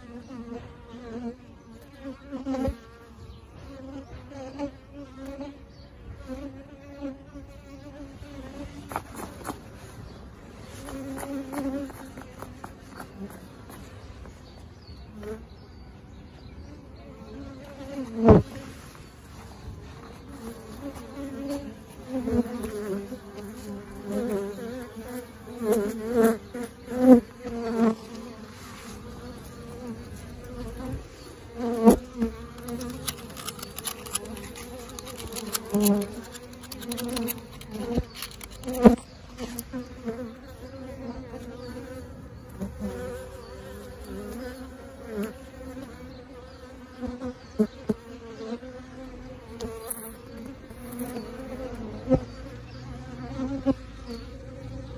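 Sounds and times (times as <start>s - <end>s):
bees buzzing: 0.0s - 54.9s
bees flying close past: 0.0s - 54.9s.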